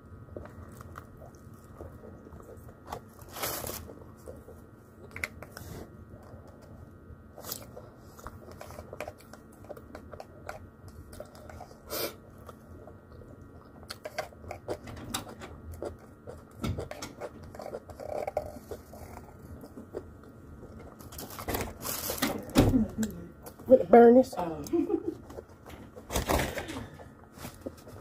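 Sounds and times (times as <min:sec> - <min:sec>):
chewing and mouth noises: 0:00.2 - 0:23.7.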